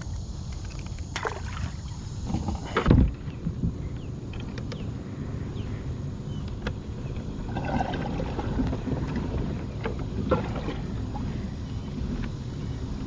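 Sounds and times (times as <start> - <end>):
water and wind rushing: 0.0 - 13.0.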